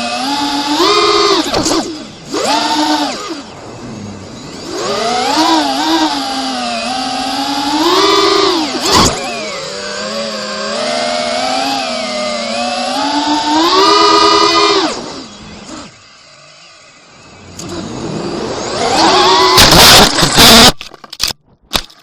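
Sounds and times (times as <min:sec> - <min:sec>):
quadcopter motors whining: 0:00.0 - 0:20.9.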